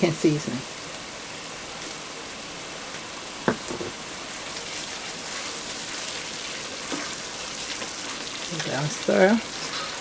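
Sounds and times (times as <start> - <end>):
sizzling of frying in oil: 0.0 - 10.0.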